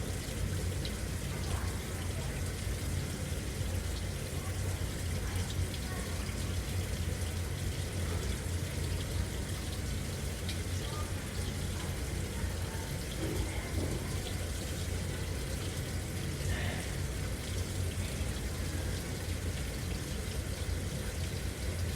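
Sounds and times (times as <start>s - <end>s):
low machine hum: 0.0s - 21.9s
running water rushing: 0.0s - 21.9s.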